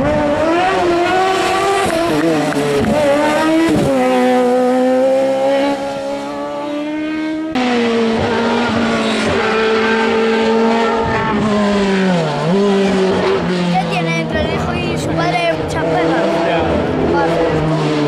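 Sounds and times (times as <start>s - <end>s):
race car engine accelerating: 0.0s - 18.0s.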